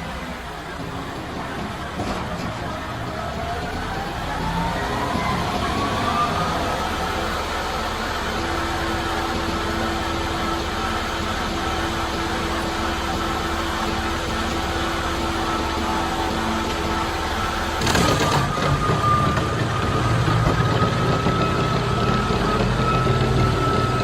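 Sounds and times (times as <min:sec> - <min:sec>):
wood chipper engine running: 0:00.0 - 0:24.0.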